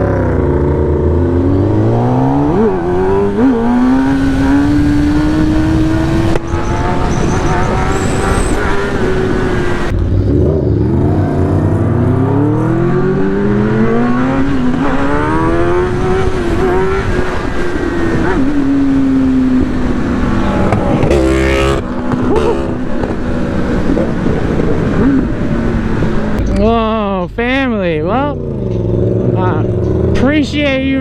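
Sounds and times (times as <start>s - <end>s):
motorcycle engine accelerating: 0.0s - 31.0s
wind rush on microphone: 1.0s - 26.4s.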